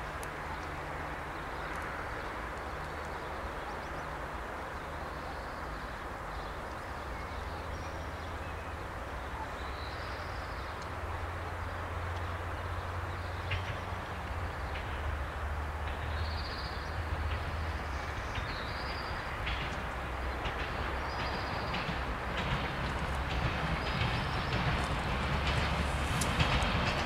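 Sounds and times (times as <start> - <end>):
diesel train engine hum: 0.0 - 27.0.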